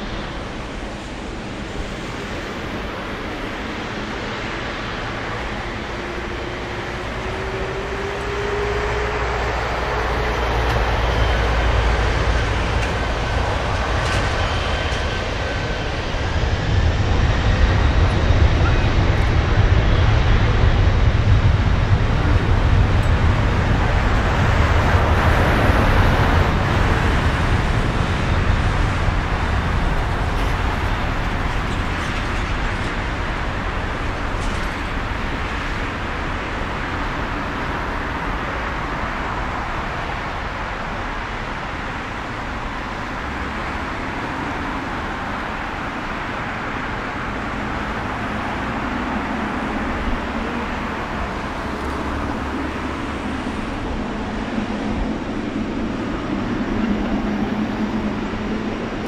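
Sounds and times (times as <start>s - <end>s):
jet engines at takeoff: 0.0s - 59.0s.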